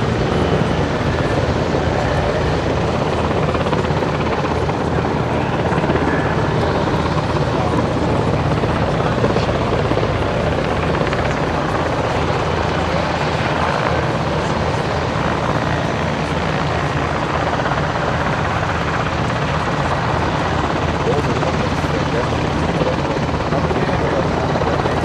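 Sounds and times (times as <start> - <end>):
helicopter rotor beat: 0.0 - 25.0
turbine engines running: 0.0 - 25.0.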